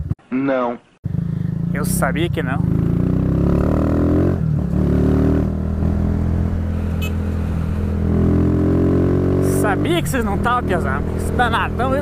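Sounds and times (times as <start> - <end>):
motorcycle engine pulling away: 1.1 - 12.0.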